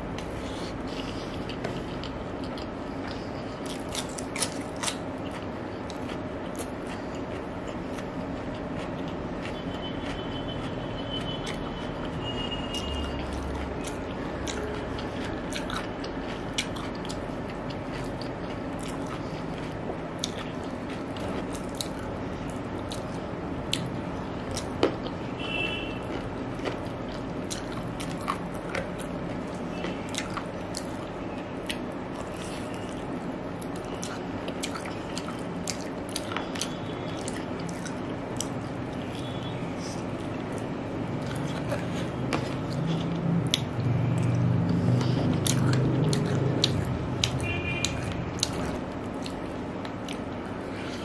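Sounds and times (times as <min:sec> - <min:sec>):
person chewing: 0:00.0 - 0:51.0
steady background noise: 0:00.0 - 0:51.0.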